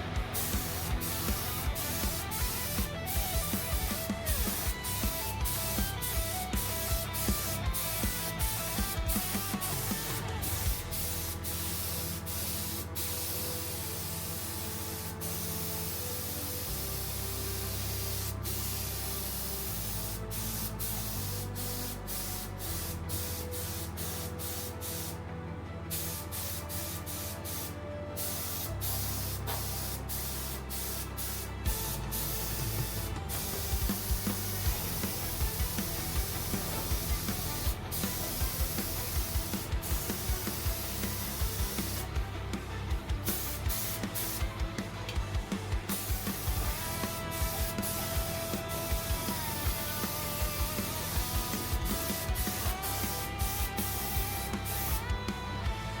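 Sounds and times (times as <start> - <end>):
paint spray hissing: 0.0 - 25.2, 25.9 - 42.1, 43.2 - 44.6, 45.5 - 55.1
background music with low notes: 0.0 - 56.0.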